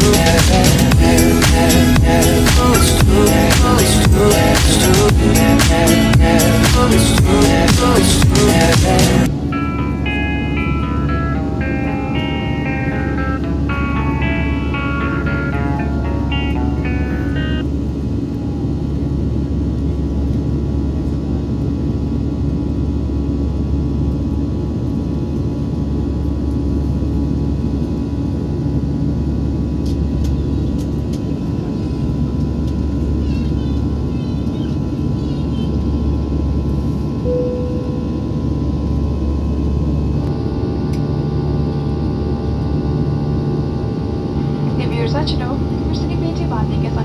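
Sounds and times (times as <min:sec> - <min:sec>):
vehicle cabin rumble: 0:00.0 - 0:43.0, 0:43.8 - 0:47.0
faint hum tones: 0:00.0 - 0:47.0.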